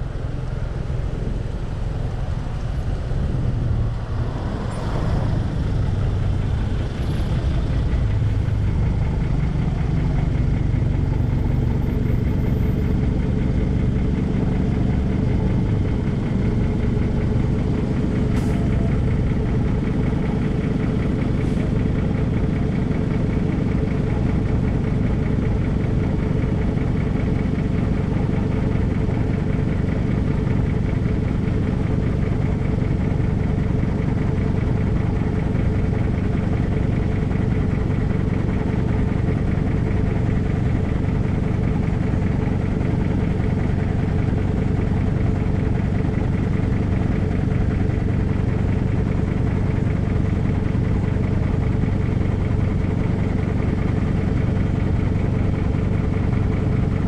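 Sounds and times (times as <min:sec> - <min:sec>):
car exhaust idling: 0:00.2 - 0:57.0.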